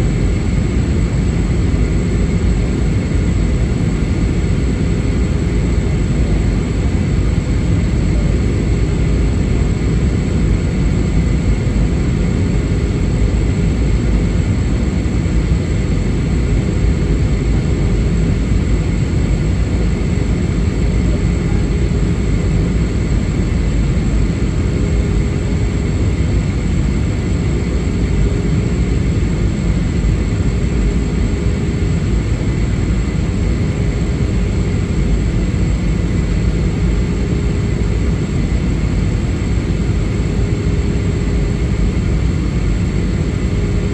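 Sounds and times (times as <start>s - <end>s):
engines and airflow rumbling: 0.0s - 43.9s
faint steady whines: 0.0s - 43.9s.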